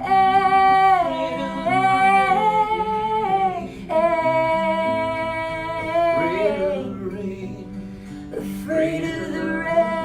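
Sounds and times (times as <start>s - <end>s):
woman singing wordless notes: 0.0s - 7.7s, 8.3s - 10.0s
acoustic guitar: 0.0s - 10.0s.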